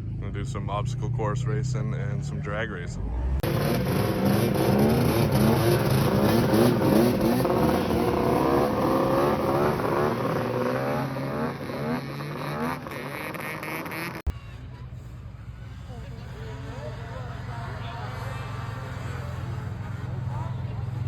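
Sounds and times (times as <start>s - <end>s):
snowmobile engine revving: 0.0s - 21.0s.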